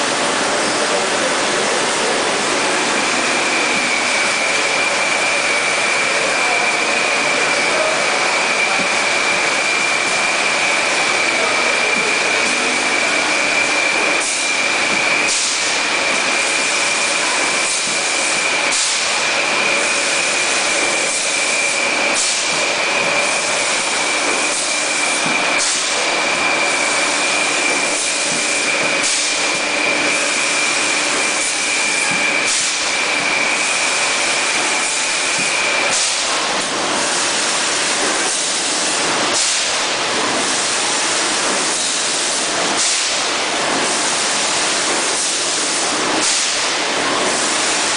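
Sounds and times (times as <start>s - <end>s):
high machine whine: 0.0s - 47.9s
loud machinery noise: 0.0s - 47.9s.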